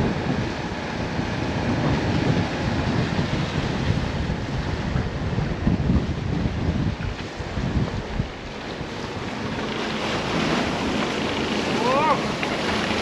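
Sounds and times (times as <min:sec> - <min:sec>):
breaking waves rushing: 0:00.0 - 0:13.0
wind buffeting microphone: 0:00.0 - 0:13.0.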